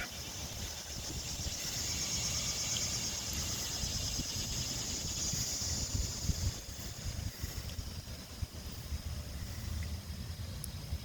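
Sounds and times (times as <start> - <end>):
insect trilling: 0.0 - 9.0
wind rumble on microphone: 0.0 - 11.0.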